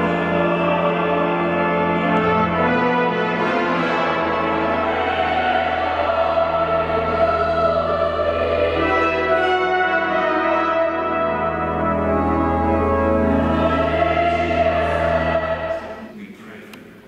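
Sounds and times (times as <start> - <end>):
choir singing in harmony: 0.0 - 16.2.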